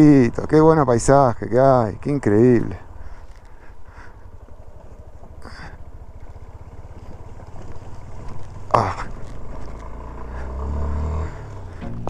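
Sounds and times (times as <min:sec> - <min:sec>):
gravel noise: 0:00.0 - 0:12.0
motorcycle engine running: 0:00.0 - 0:12.0
wind: 0:00.0 - 0:12.0.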